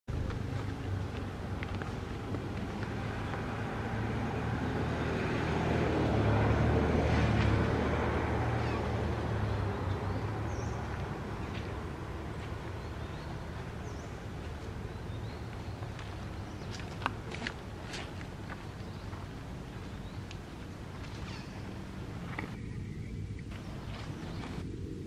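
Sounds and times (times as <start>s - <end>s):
vehicle engine drone passing: 0.1s - 25.0s.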